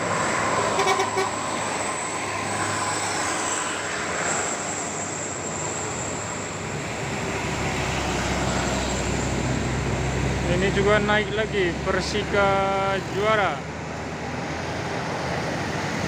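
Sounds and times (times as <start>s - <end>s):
bus engine and tyres passing: 0.0s - 16.0s.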